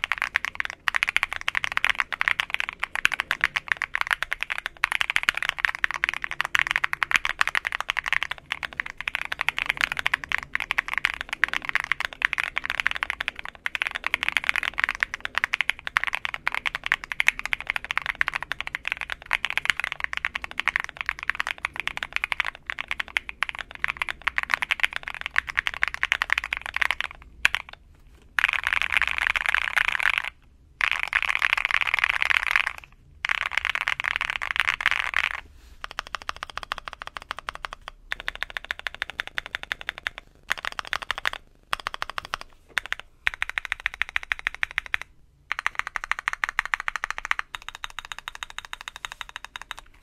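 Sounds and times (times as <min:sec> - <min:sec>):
mechanical keyboard typing: 0:00.0 - 0:50.0.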